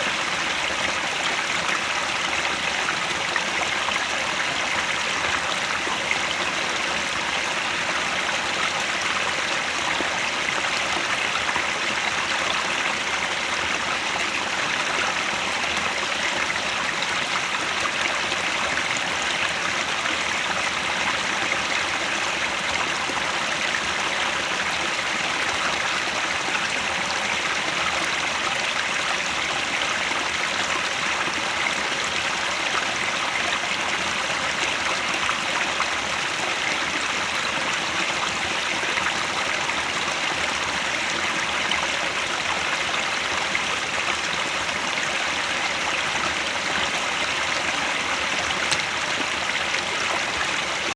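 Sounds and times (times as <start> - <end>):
stream running: 0.0 - 50.9.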